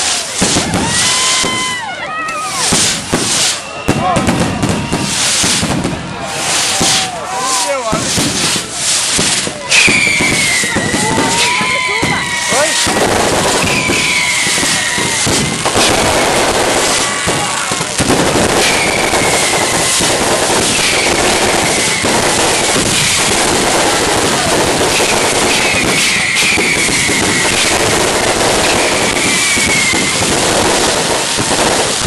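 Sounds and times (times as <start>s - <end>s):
firework whistles: 0.0s - 32.0s
fireworks crackling and banging: 0.0s - 32.0s.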